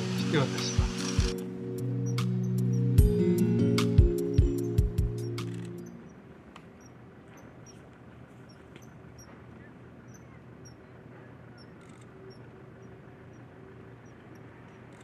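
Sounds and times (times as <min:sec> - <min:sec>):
kingfisher peeping: 0:00.0 - 0:03.0, 0:04.2 - 0:15.0.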